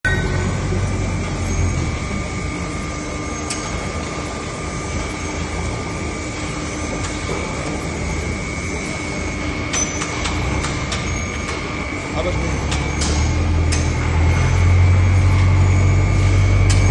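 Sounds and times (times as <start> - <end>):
machinery droning: 0.0 - 16.9.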